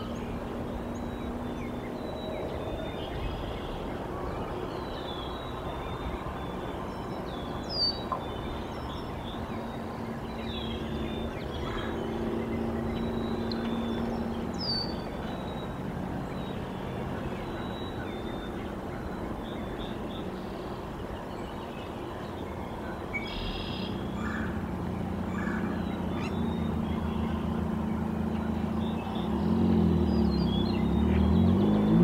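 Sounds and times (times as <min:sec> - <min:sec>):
distant motor vehicle hum: 0:00.0 - 0:32.0
songbirds chirping: 0:00.0 - 0:32.0.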